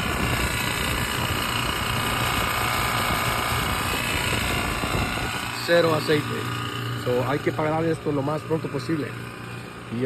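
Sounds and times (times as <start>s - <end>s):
compressor whining and rattling: 0.0s - 10.0s.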